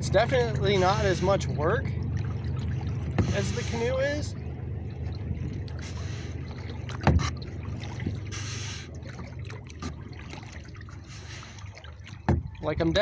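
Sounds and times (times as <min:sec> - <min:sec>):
paddle strokes splashing water: 0:00.0 - 0:13.0
steady low rumble: 0:00.0 - 0:13.0.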